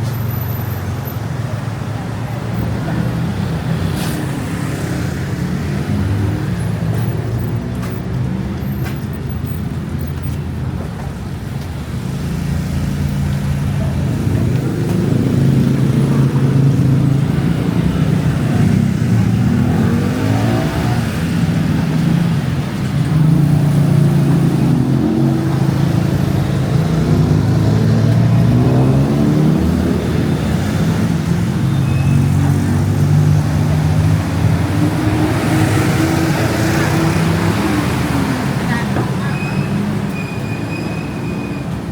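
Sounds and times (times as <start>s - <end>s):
vehicles passing close by: 0.0s - 41.9s.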